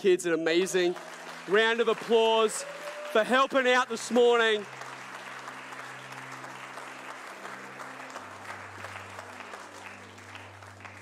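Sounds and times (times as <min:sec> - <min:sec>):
congregation applauding: 0:00.0 - 0:11.0.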